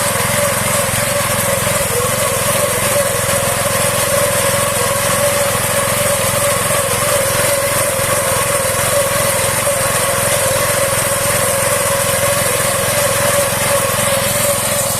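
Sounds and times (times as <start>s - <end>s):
combine harvester running: 0.0s - 14.9s.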